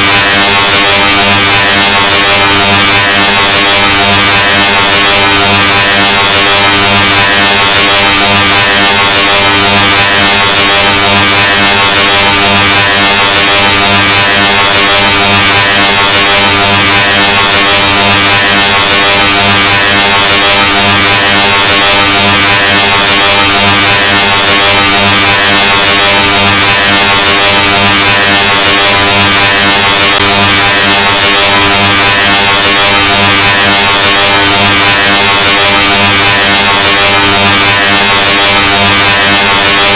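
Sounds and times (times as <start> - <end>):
harsh clipped buzzing drone: 0.0 - 39.9.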